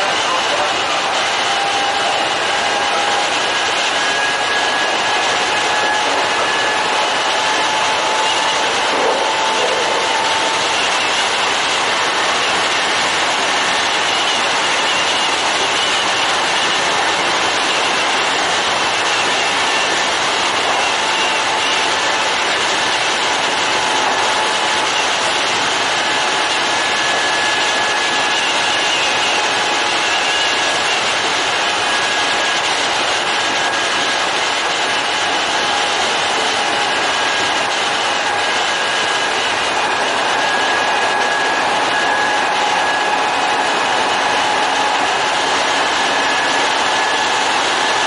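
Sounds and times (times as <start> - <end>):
high-pitched whine: 0.0 - 48.0
train wheels on rails: 0.0 - 48.0.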